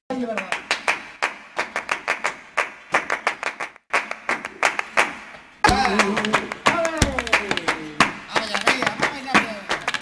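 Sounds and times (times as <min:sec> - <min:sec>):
rhythmic hand clapping: 0:00.1 - 0:10.0.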